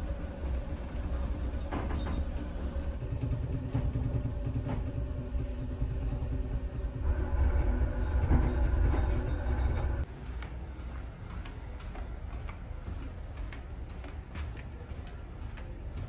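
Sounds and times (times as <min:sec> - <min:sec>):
ferry engine drone: 0:00.0 - 0:16.0
mechanical hum: 0:00.0 - 0:16.0.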